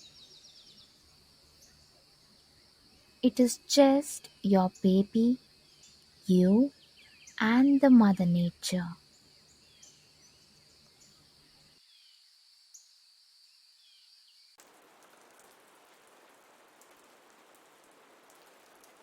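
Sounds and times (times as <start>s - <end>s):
soft rain hiss: 0.0s - 19.0s.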